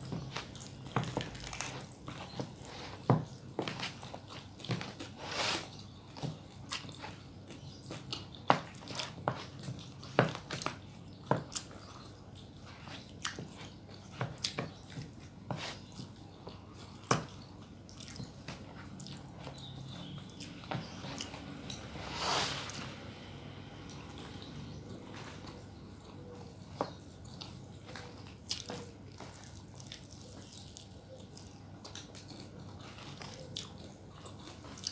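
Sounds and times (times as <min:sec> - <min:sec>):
person chewing and crunching: 0:00.0 - 0:34.9.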